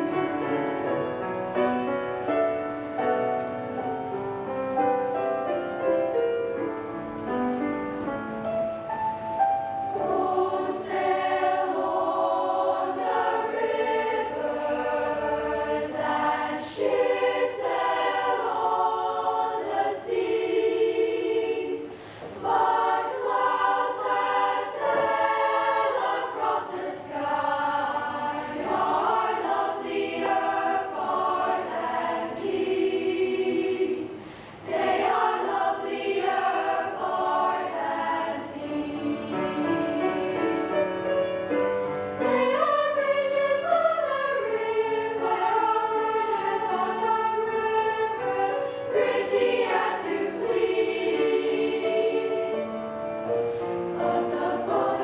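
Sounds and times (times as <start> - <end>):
children's choir singing in harmony: 0.0 - 55.0.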